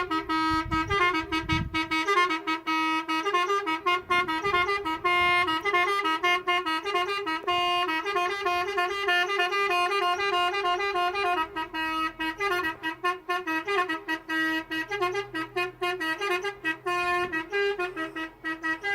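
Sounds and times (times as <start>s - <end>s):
musical vehicle horn tune: 0.0s - 18.9s.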